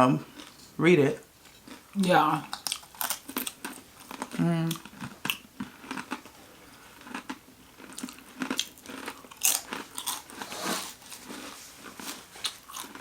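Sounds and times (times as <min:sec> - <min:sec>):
chewing crunches: 0:00.3 - 0:00.6, 0:01.5 - 0:13.0.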